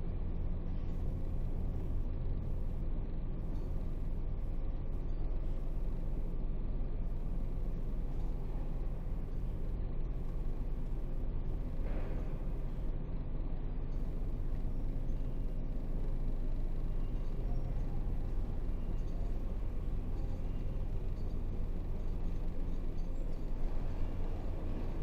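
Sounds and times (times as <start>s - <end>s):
truck diesel engine droning: 0.0s - 25.0s.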